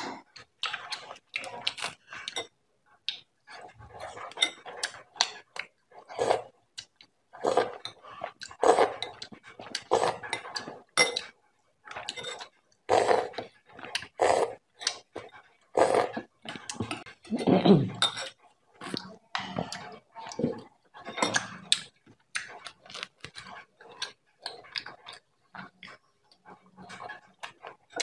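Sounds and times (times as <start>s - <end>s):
wet chewing and slurping: 0.0s - 28.0s.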